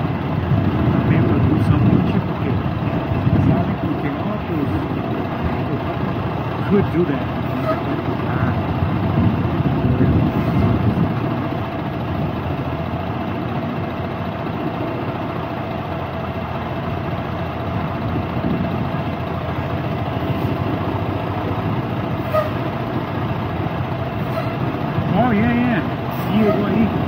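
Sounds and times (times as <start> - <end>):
diesel truck engine running: 0.0 - 27.0.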